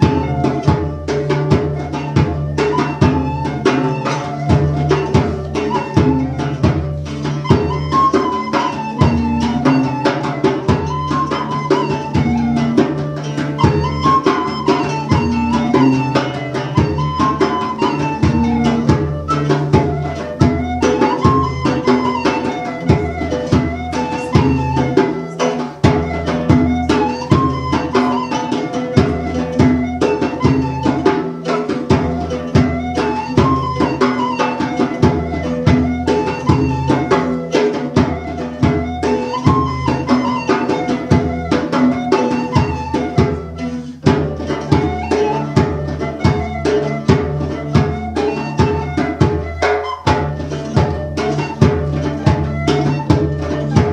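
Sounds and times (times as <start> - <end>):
goblet drum strokes: 0.0 - 53.9
plucked lute: 0.0 - 53.9
wooden flute melody: 0.0 - 53.9.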